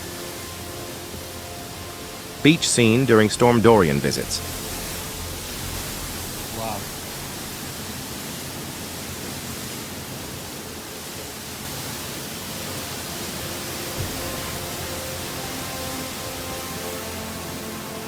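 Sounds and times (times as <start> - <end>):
faint music tones: 0.0 - 9.0, 11.6 - 18.0
storm wind: 0.0 - 17.6
surf on a beach: 0.0 - 18.0.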